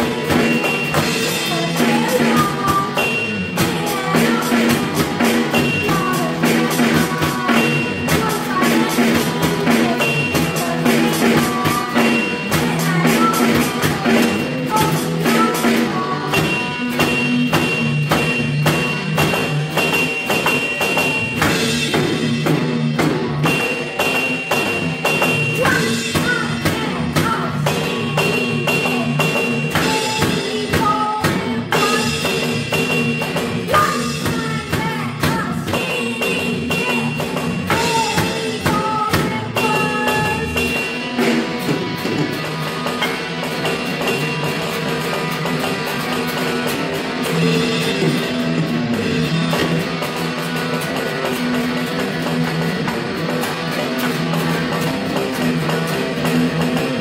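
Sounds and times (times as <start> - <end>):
electric guitar: 0.0 - 57.0
electronic drums: 0.0 - 57.0
rock music: 0.0 - 57.0.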